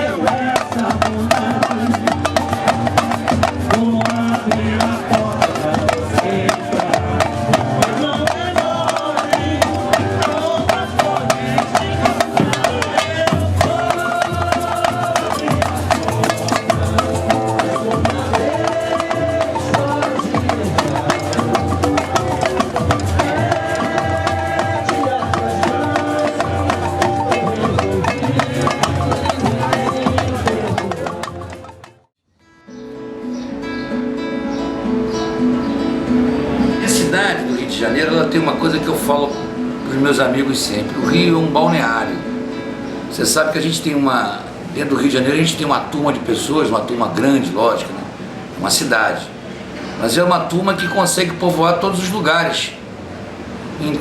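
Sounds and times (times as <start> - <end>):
samba percussion band: 0.0 - 32.0, 35.4 - 52.5.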